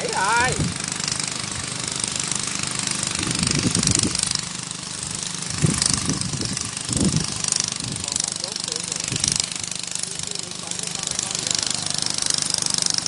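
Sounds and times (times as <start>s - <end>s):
small engine knocking: 0.0s - 13.0s.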